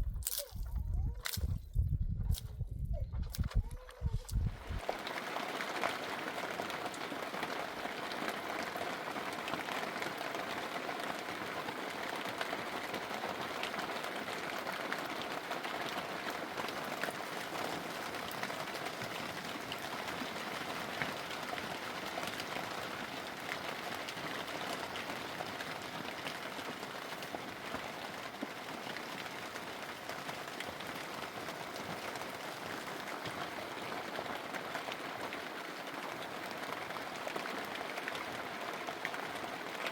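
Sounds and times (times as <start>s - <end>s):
rain pattering: 3.8s - 39.9s.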